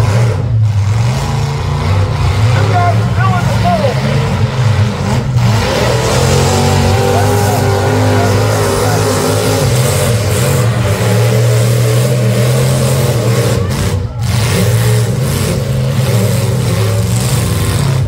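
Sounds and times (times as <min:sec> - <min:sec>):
car engines revving loudly: 0:00.0 - 0:18.0.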